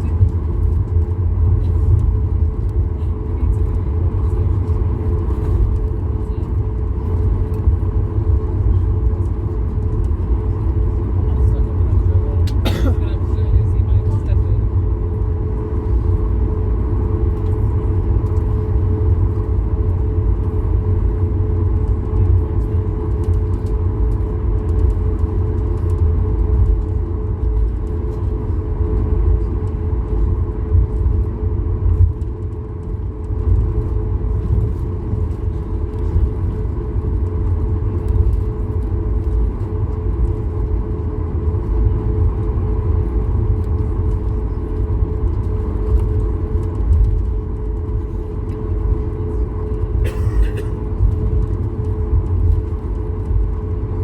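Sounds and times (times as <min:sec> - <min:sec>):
airplane cabin engine roar: 0:00.0 - 0:54.0
constant hum tone: 0:00.0 - 0:54.0.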